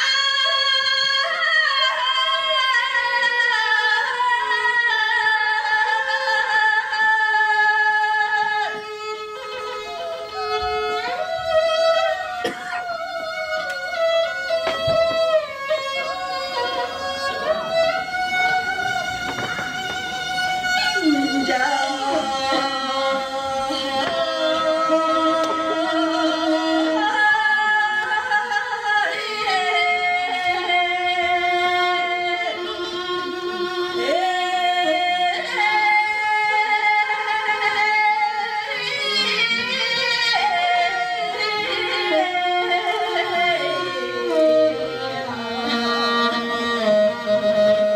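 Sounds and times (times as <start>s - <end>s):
bowed string instrument: 0.0s - 47.9s.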